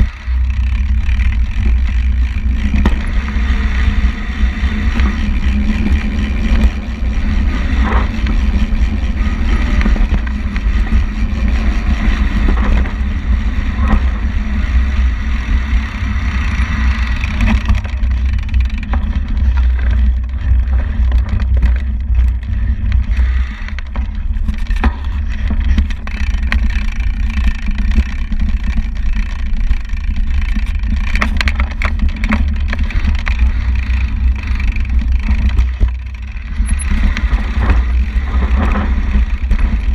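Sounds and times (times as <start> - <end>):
bike rattling clicks and knocks: 0.0 - 39.9
tyres rumbling on dirt trail: 0.0 - 39.9.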